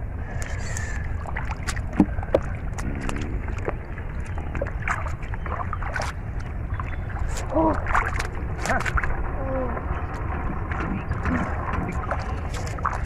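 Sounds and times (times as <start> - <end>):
wind rumble on microphone: 0.0 - 13.0
hands splashing in floodwater: 0.4 - 9.2, 9.9 - 13.0.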